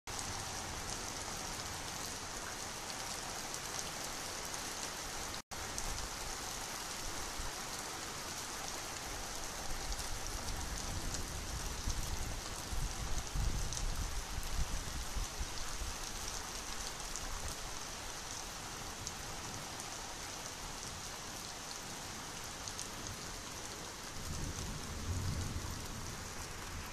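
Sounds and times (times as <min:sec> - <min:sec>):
light rain patter: 0:00.1 - 0:26.9.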